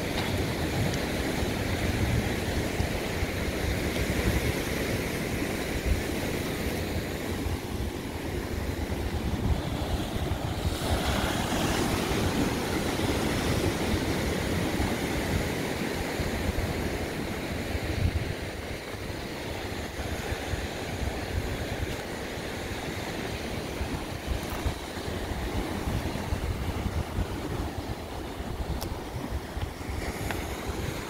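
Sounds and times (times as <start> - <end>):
ocean surf breaking on rocks: 0.0 - 31.0
wind buffeting microphone: 0.0 - 31.0.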